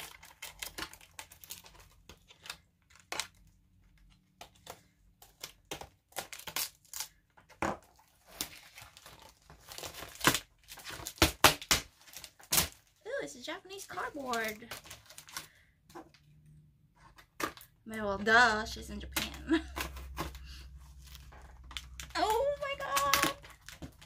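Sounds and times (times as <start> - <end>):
paper crinkling and tearing: 0.0 - 7.2, 8.0 - 15.6, 19.5 - 24.0.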